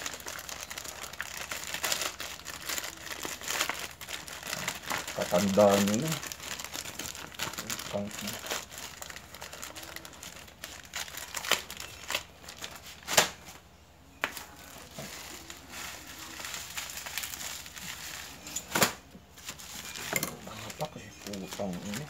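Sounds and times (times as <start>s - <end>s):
plastic bag crinkling: 0.0s - 13.6s, 14.2s - 22.0s.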